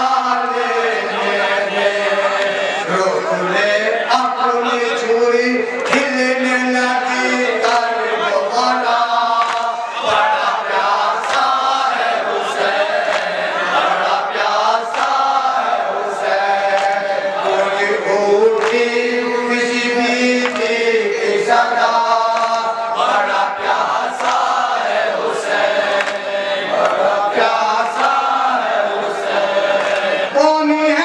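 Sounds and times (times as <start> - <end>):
men chanting a lament: 0.0 - 31.0.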